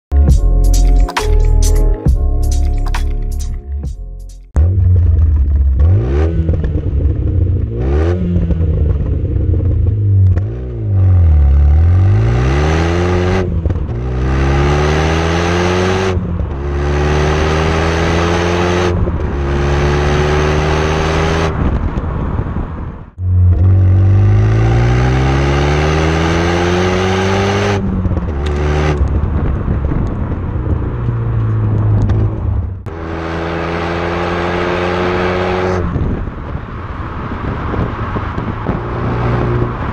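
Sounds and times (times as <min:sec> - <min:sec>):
car exhaust under hard acceleration: 0:04.5 - 0:39.9.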